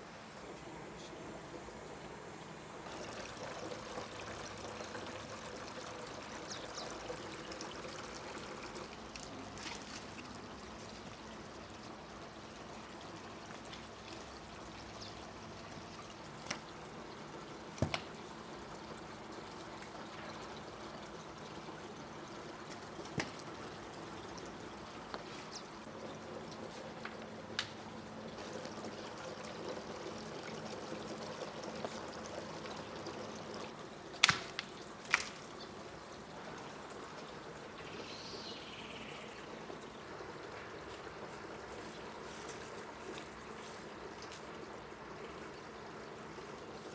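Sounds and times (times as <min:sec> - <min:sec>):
water running and trickling: 0:02.8 - 0:46.9.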